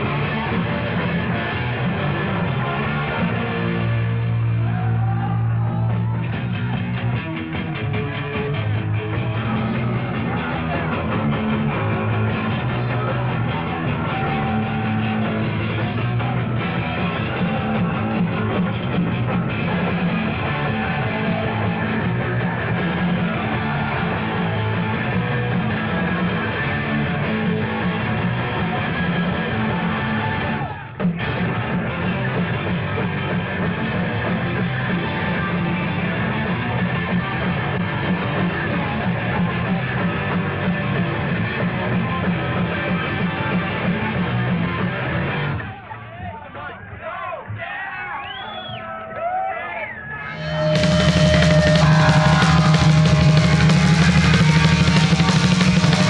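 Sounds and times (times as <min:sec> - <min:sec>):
distorted electric guitar: 0:00.0 - 0:45.7, 0:50.2 - 0:56.0
drums: 0:00.0 - 0:48.8, 0:50.1 - 0:56.0.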